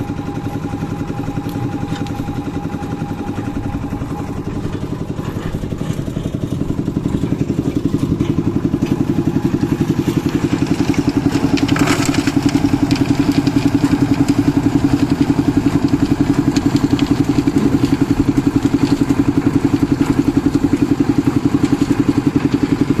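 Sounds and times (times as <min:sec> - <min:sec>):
concrete mixer engine running: 0:00.0 - 0:23.0
wet concrete clattering into wheelbarrow: 0:01.3 - 0:23.0.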